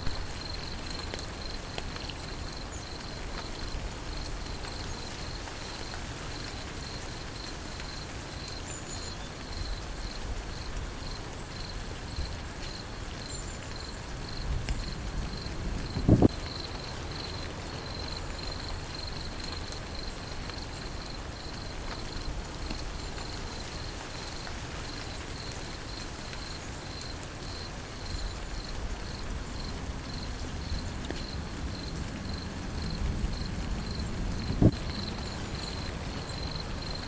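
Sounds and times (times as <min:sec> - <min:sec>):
rain hissing: 0:00.0 - 0:37.0.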